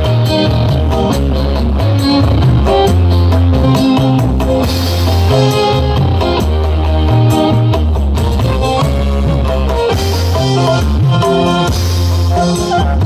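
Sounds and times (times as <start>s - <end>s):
loud music over loudspeakers: 0.0s - 13.0s.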